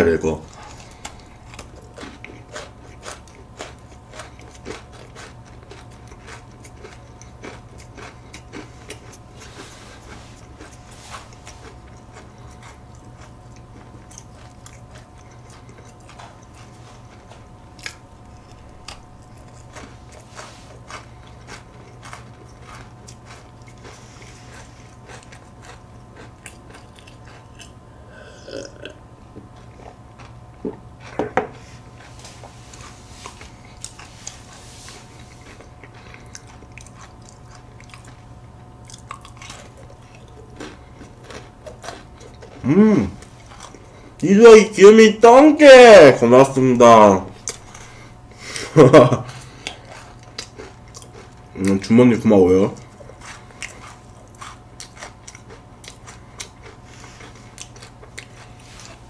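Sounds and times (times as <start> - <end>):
crisp cookie being chewed: 0.3 - 44.7, 46.3 - 59.0.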